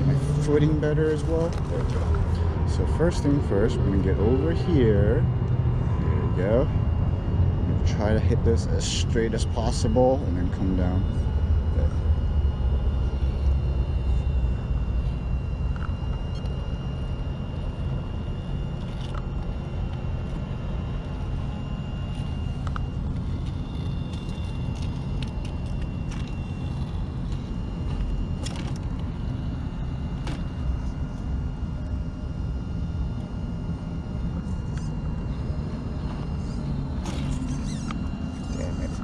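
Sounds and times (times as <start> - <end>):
faint motor whine: 0.0 - 39.0.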